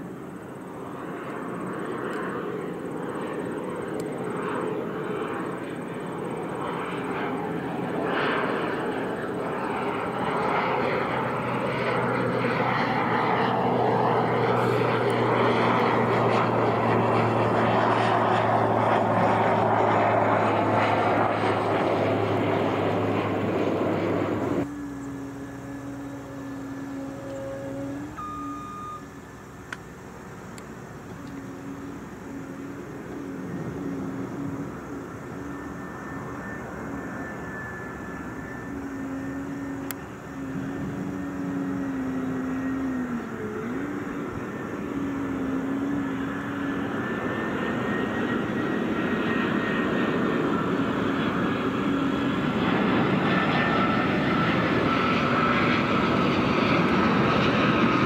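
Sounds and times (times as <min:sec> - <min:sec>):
faint steady whine: 0:00.0 - 0:58.0
propeller airplane drone: 0:00.0 - 0:58.0
steady low hum: 0:00.0 - 0:58.0.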